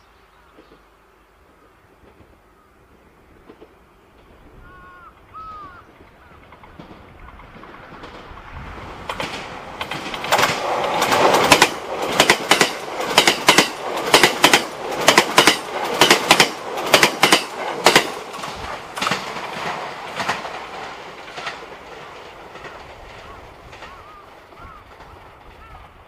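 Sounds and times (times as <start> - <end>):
train wheels clicking over rail joints: 3.3 - 26.0.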